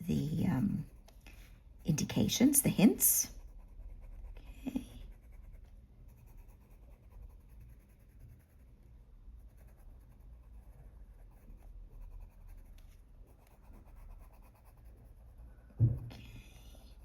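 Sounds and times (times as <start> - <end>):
pencil scratching on paper: 0.0 - 15.7, 16.4 - 17.0.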